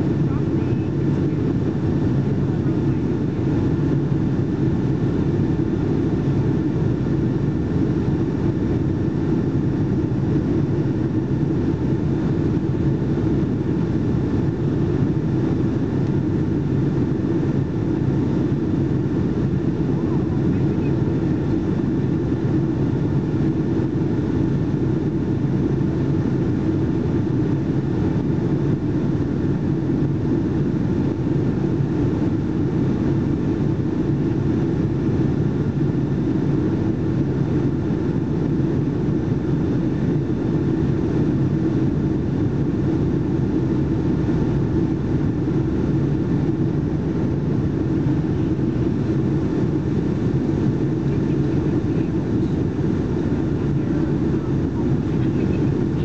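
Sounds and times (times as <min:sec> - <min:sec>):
aircraft cabin engine rumble: 0:00.0 - 0:56.0
faint steady hum: 0:00.0 - 0:56.0.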